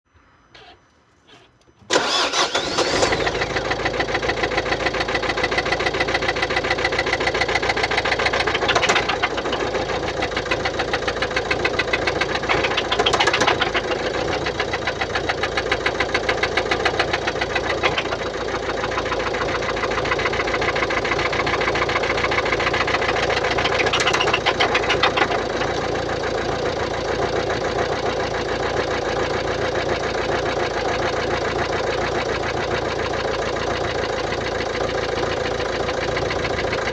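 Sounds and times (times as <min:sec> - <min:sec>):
diesel engine idling with knocking: 0:02.1 - 0:36.9.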